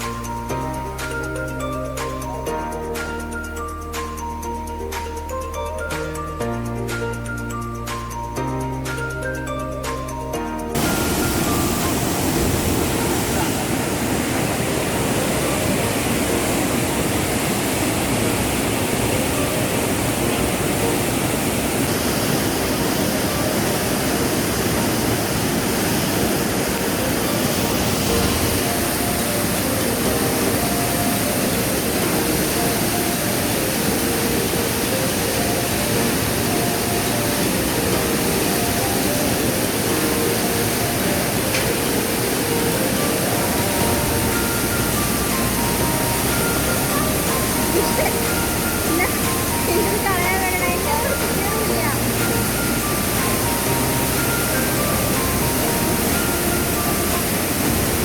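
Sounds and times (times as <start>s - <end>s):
waterfall roaring: 10.8s - 58.0s.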